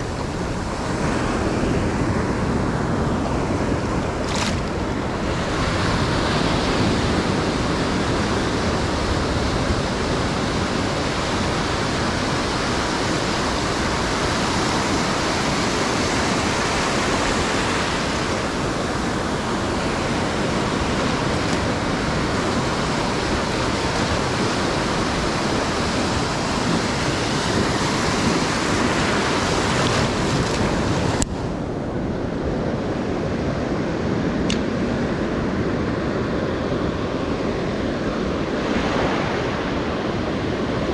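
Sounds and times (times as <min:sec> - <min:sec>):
ocean surf on sandy beach: 0:00.0 - 0:40.9
wind on microphone: 0:00.0 - 0:40.9.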